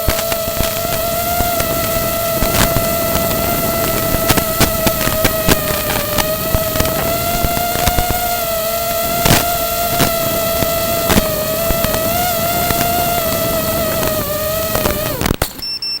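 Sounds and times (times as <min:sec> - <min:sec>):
wind noise: 0:00.0 - 0:15.4
drone motors whining: 0:00.0 - 0:16.0.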